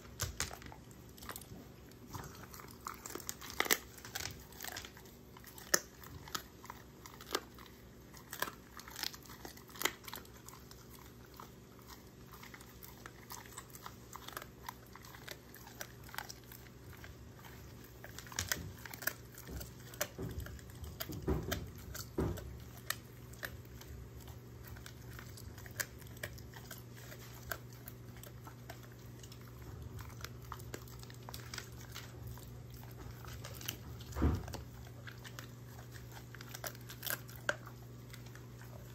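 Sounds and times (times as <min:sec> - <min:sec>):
dog chewing a treat: 0:00.0 - 0:38.9.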